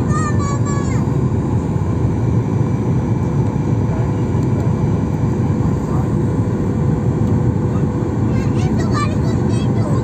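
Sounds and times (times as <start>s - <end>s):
engine and airflow rumble: 0.0s - 10.0s.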